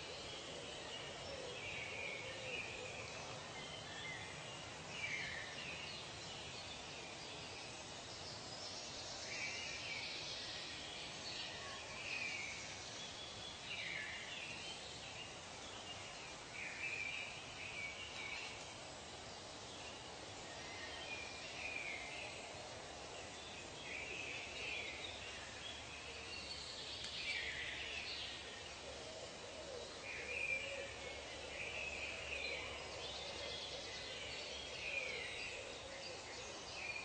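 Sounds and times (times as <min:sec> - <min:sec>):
steady soft hiss: 0:00.0 - 0:37.0.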